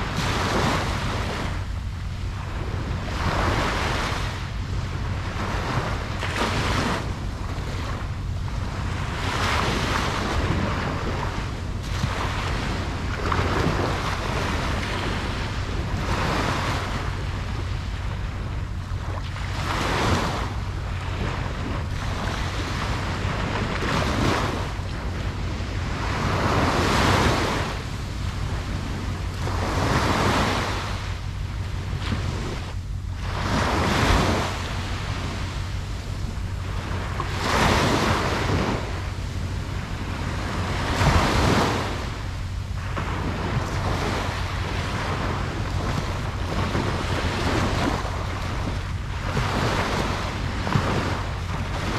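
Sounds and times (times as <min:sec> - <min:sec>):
ocean waves breaking on beach: 0:00.0 - 0:51.9
wind on microphone: 0:00.0 - 0:51.9.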